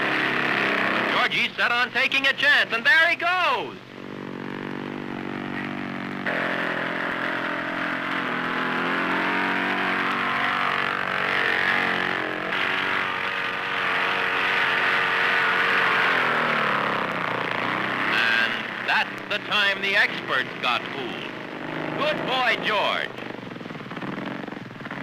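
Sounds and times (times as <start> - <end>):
propeller plane engine droning: 3.6 - 25.0.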